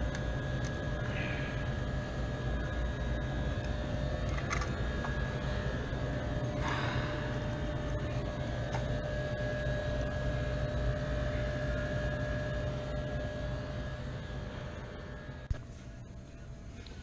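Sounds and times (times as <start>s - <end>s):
refrigeration equipment humming: 0.0s - 17.0s.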